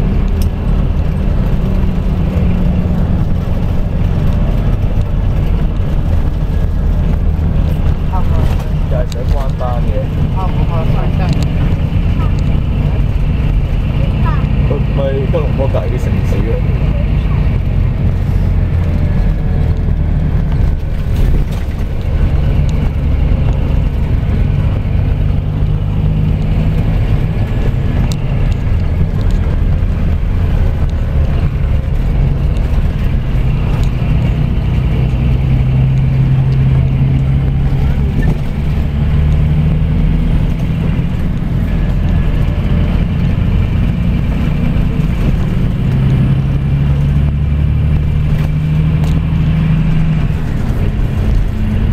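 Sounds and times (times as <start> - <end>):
coach diesel engine droning: 0.0 - 51.9
road noise: 0.0 - 51.9.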